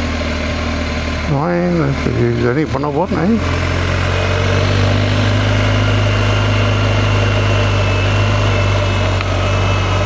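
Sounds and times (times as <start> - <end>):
engine idling with whine: 0.0 - 10.0.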